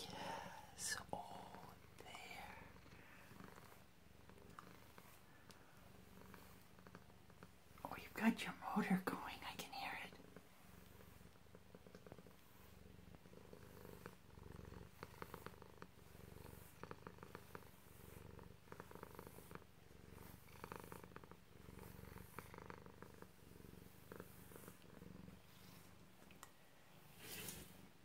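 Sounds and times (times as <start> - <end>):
brush stroking through fur: 0.0 - 26.3, 27.0 - 27.9
cat purring: 0.0 - 28.0.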